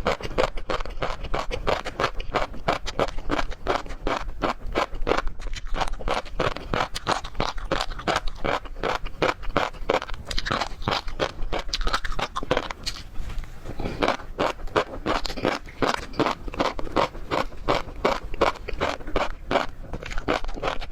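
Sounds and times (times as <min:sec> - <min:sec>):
crunchy wet chewing: 0:00.0 - 0:20.9.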